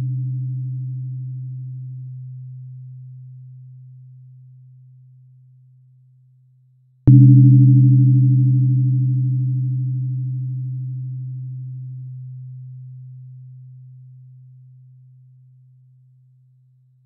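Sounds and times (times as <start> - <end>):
tuning fork strike and hum: 0.0 - 5.3, 7.1 - 16.0.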